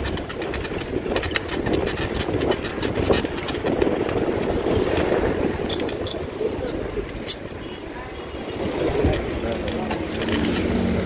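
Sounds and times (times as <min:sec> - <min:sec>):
bike frame rattling and clicking: 0:00.0 - 0:06.4, 0:07.0 - 0:10.4
bicycle tyre and wind rumble: 0:00.0 - 0:11.0.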